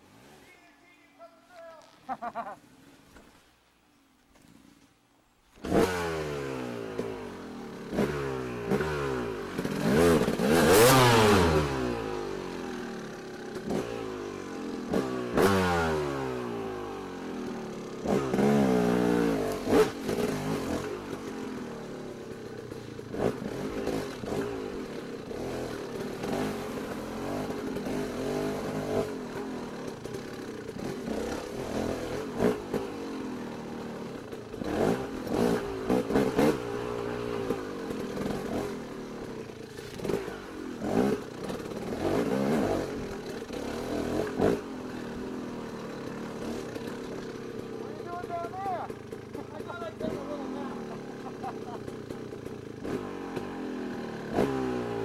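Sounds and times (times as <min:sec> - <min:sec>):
small engines revving and passing: 0:05.6 - 0:55.0.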